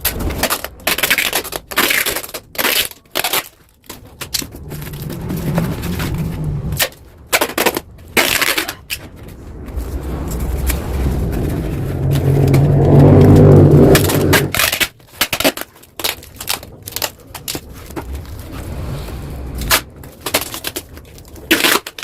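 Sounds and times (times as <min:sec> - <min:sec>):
exhaust pops and clicks: 0:00.0 - 0:18.4.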